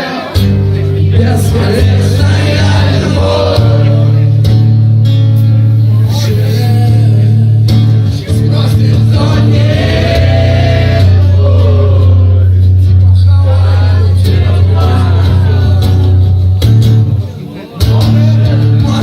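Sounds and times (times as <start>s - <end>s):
man singing: 0.0s - 4.6s, 6.0s - 16.6s, 17.7s - 19.0s
acoustic guitar accompaniment: 0.0s - 19.0s.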